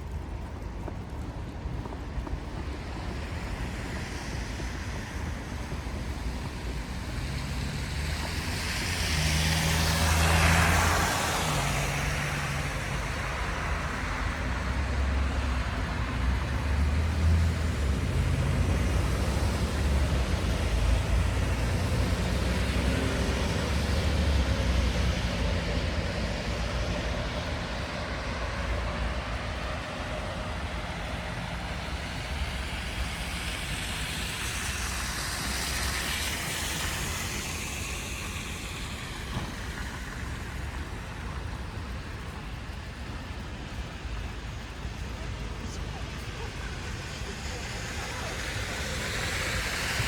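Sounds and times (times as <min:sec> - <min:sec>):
traffic engine hum: 0:00.0 - 0:50.0
vehicle tyre hiss passing: 0:02.7 - 0:50.0.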